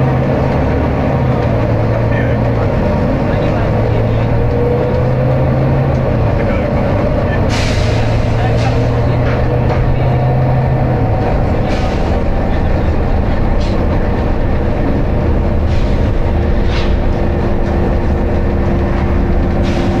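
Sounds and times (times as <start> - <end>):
bus engine droning: 0.0 - 20.0
road rumble: 0.0 - 20.0.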